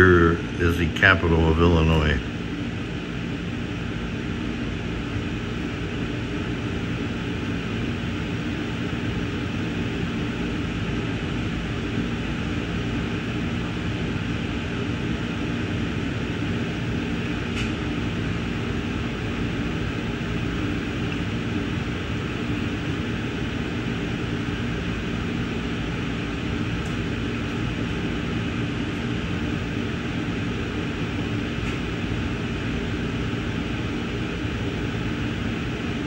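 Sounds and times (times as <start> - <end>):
air conditioning hum: 0.0 - 36.0.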